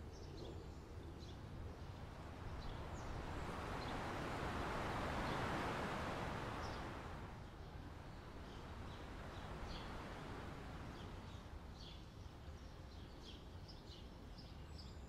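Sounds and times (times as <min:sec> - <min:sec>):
small birds chirping: 0:00.0 - 0:04.2, 0:06.5 - 0:15.0.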